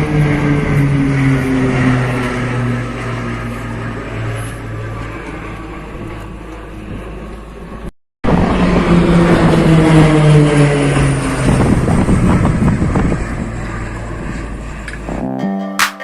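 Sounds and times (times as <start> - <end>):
fast vehicle passing: 0.0 - 6.3, 8.3 - 15.3.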